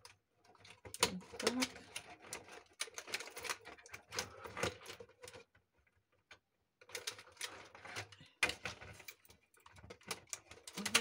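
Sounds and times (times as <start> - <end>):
plastic pieces clicking and crackling: 0.0 - 11.0.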